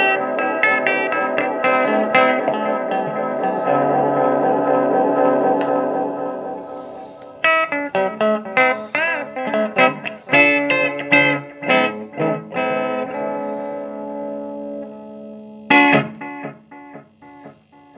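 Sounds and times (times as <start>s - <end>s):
strummed guitar chord: 0.0s - 17.4s
electric guitar picked notes: 0.0s - 17.9s.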